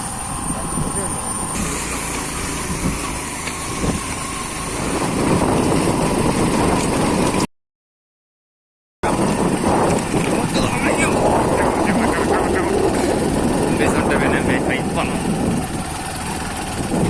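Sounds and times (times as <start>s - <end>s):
motorcycle engine running: 0.0s - 7.5s, 9.0s - 17.0s.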